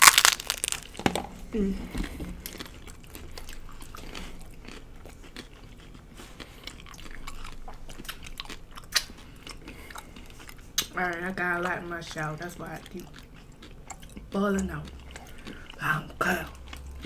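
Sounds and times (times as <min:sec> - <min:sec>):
crunching taco shells: 0:00.0 - 0:01.4, 0:02.0 - 0:15.8.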